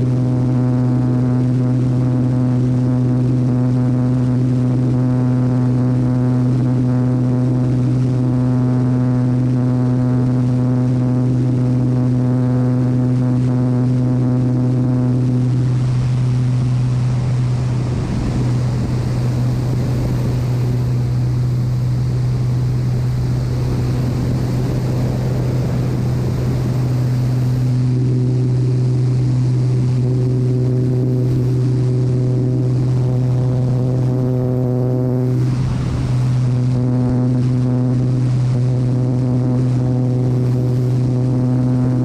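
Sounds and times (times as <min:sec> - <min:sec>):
airplane engine drone: 0:00.0 - 0:42.0
wind rushing over microphone: 0:00.0 - 0:42.0.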